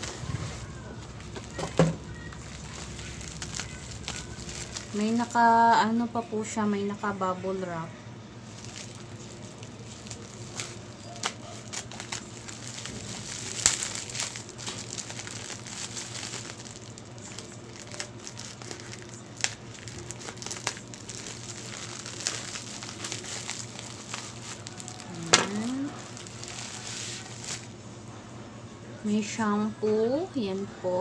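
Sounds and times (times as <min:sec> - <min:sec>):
bubble wrap crinkling: 0:00.0 - 0:06.1, 0:08.4 - 0:27.8.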